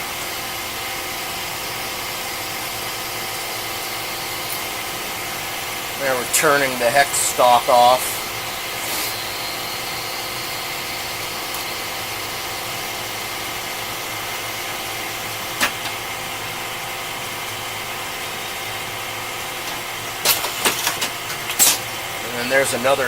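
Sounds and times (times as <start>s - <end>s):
lathe humming: 0.0s - 23.0s.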